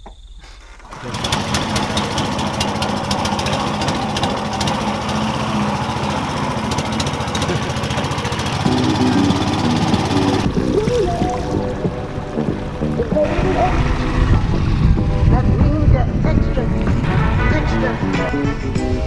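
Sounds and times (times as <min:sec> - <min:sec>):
small boat engine running: 0:00.8 - 0:18.6.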